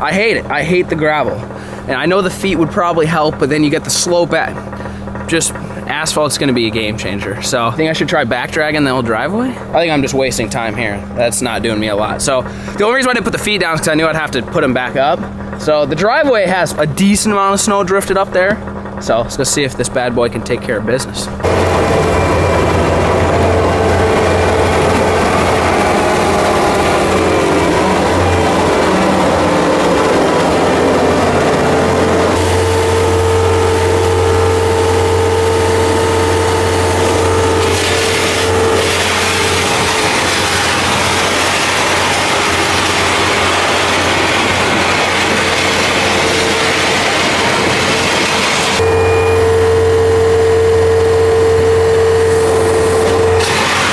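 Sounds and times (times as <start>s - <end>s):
diesel engine running: 0.0s - 53.9s
steady whine: 0.0s - 53.9s.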